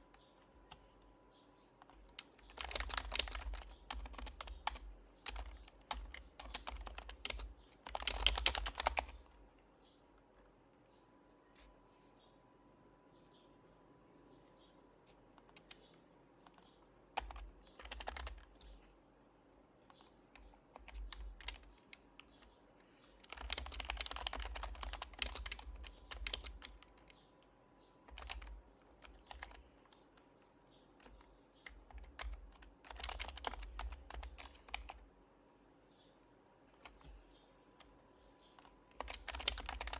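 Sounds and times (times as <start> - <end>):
quiet keyboard typing: 0.0 - 9.6, 14.3 - 18.9, 19.5 - 35.1, 36.7 - 39.9.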